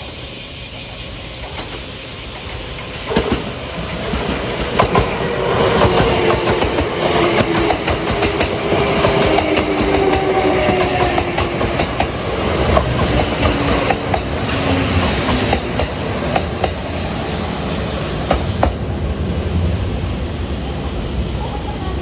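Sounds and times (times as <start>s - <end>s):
train wheels clicking over rail joints: 1.4s - 19.4s.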